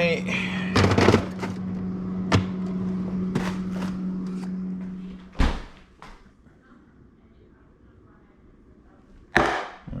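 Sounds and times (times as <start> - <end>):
steady hum: 0.0 - 9.7.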